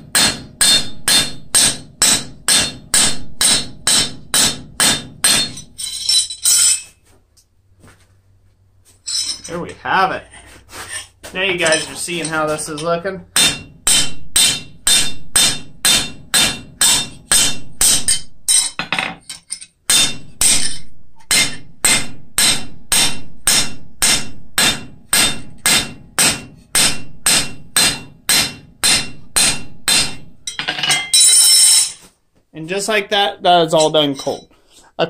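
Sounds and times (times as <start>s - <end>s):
hammer striking steel on anvil: 0.0s - 6.8s, 11.5s - 32.0s, 33.7s - 34.5s.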